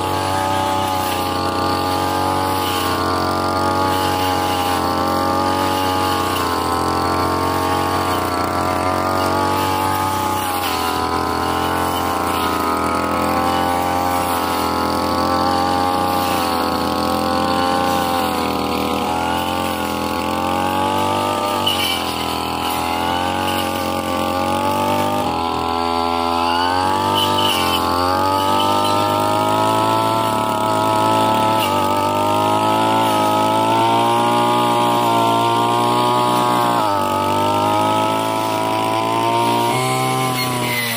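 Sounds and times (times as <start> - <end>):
blade cutting grass: 0.0 - 40.9
brush cutter engine: 0.0 - 40.9.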